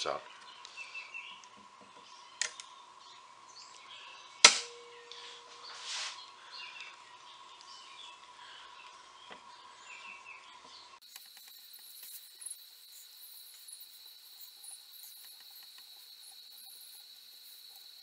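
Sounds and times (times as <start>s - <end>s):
faint high chirps: 0.0s - 18.0s.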